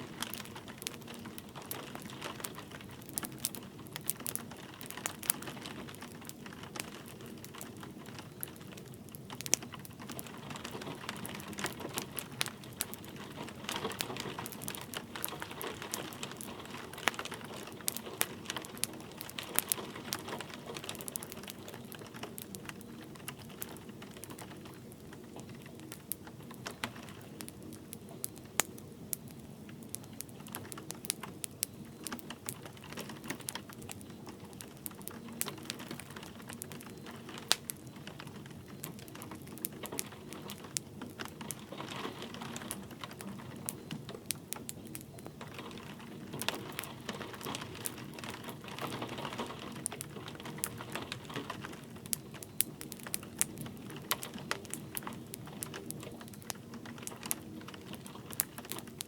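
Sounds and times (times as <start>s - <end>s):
light rain hiss: 0.0s - 59.0s
wood fire crackling and popping: 0.0s - 59.0s.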